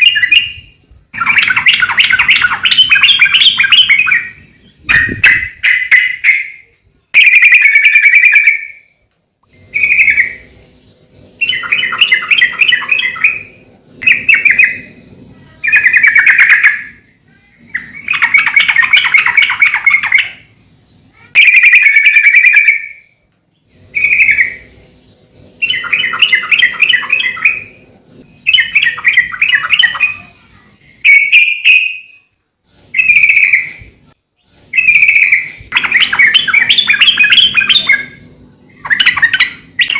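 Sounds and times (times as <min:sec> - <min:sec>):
bird singing bubbling phrases: 0:00.0 - 0:39.9.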